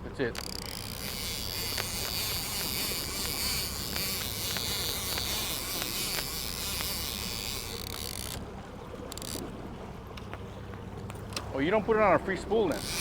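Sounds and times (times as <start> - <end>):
boat engine running: 0.0 - 13.0
faint ticks: 0.2 - 9.5, 10.1 - 11.5, 12.7 - 13.0.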